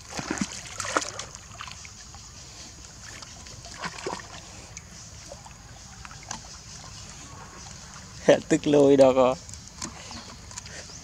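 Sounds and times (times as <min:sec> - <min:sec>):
water splashing and lapping: 0:00.0 - 0:11.0.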